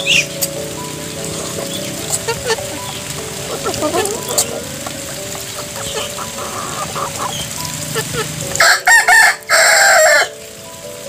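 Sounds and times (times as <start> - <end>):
background music sustained notes: 0.0 - 11.0
birds pecking in wet mash: 0.3 - 10.0.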